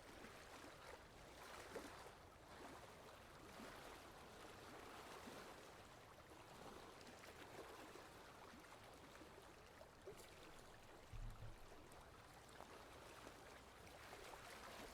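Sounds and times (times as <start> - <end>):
water lapping and splashing: 0.1 - 14.9.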